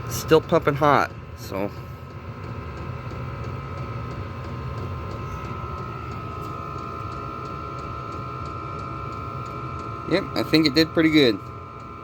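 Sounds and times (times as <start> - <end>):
heater blower hum with whine: 0.0 - 12.0.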